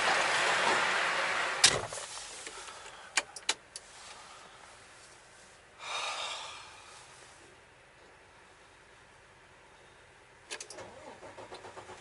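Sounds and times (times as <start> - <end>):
outside noise: 0.0 - 12.0.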